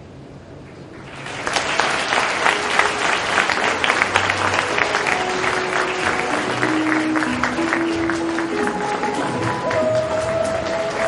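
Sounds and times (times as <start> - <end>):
faint music notes: 0.7 - 11.0
audience applauding: 1.0 - 11.0.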